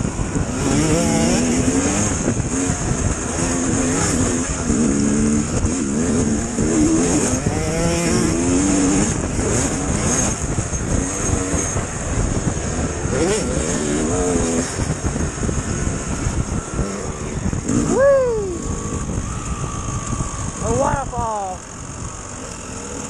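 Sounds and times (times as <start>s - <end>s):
dirt bike engine revving: 0.0s - 23.0s
steady rushing noise: 0.0s - 23.0s.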